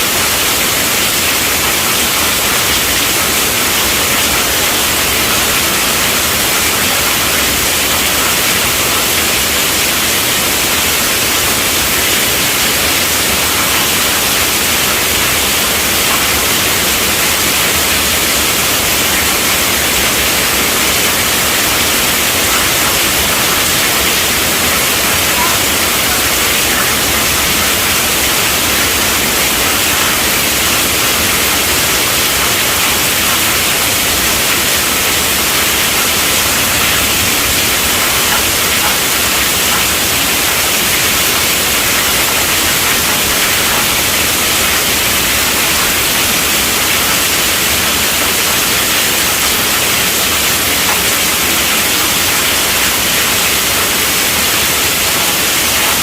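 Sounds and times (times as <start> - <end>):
heavy rain drumming on tent roof: 0.0 - 56.0.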